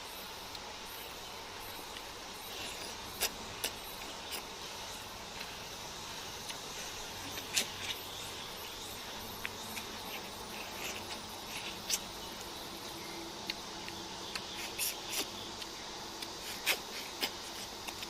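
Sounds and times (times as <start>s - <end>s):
faint hiss: 0.0s - 18.0s
eating clicks and crunches: 1.8s - 18.0s.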